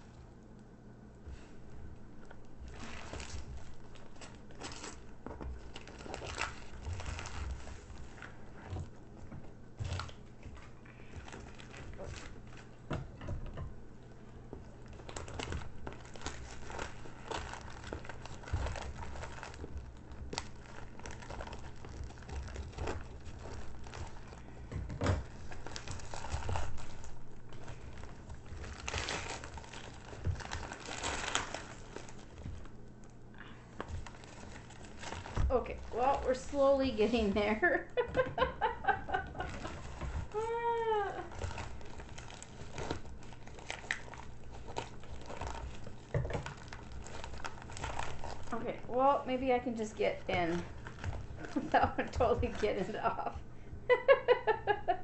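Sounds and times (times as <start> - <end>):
packaging wrap crinkling and tearing: 2.2 - 8.8, 9.8 - 12.8, 14.7 - 49.0, 49.6 - 53.4.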